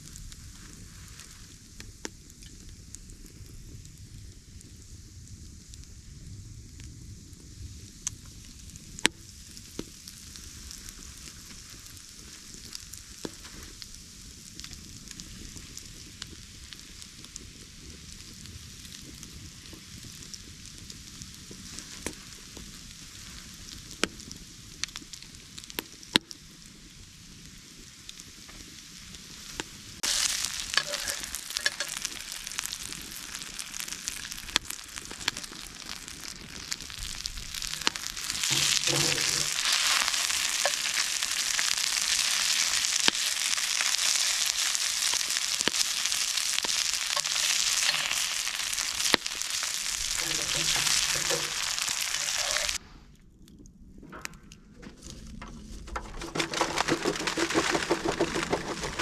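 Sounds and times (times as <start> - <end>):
fish sizzling in a pan: 0.0 - 5.8, 7.1 - 52.8.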